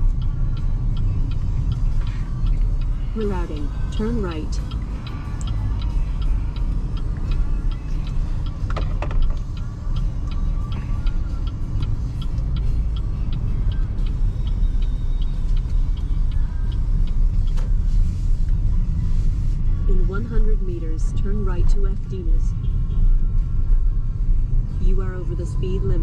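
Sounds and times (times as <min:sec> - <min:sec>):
road and tyre rumble: 0:00.0 - 0:26.0
turn signal ticking: 0:00.0 - 0:26.0.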